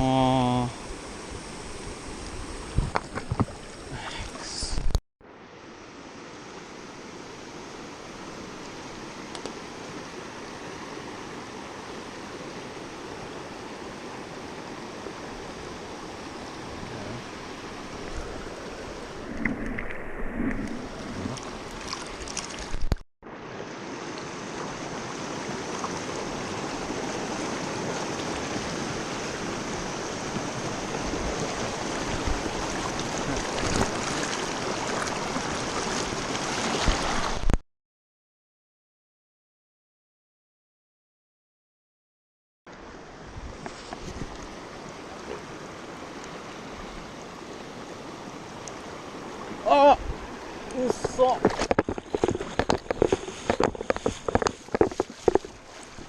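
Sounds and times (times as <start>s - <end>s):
river water rushing: 5.3s - 37.4s, 42.8s - 56.0s.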